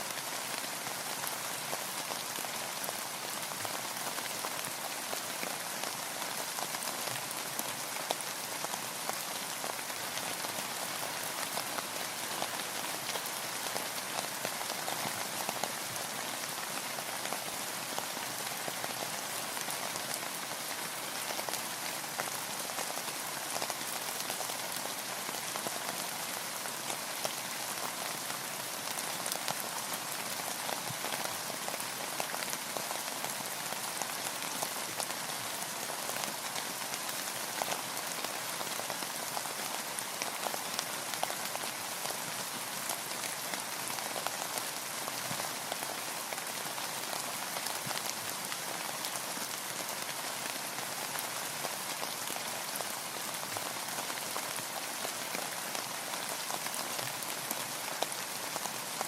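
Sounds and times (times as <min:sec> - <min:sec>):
rain on a boat roof and water: 0:00.0 - 0:59.0.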